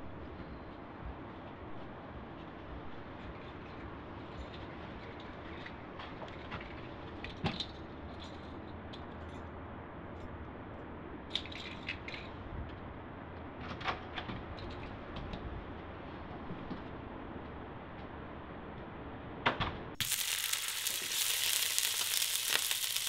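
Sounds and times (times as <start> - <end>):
faint room hum: 0.0 - 23.0.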